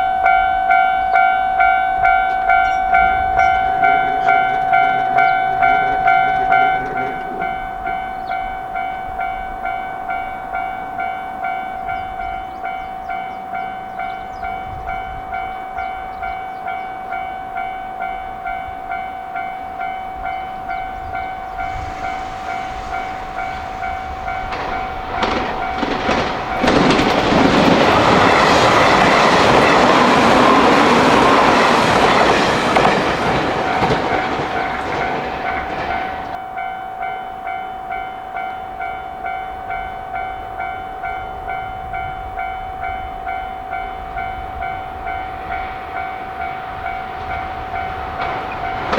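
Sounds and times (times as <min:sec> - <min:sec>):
train wheels on rails: 0:00.0 - 0:38.8, 0:39.7 - 0:48.9
level-crossing warning bell: 0:00.0 - 0:48.9.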